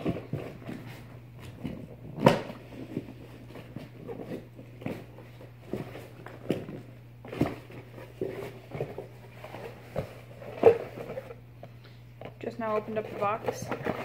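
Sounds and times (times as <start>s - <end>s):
box rustling: 0.0s - 11.4s, 12.3s - 14.0s.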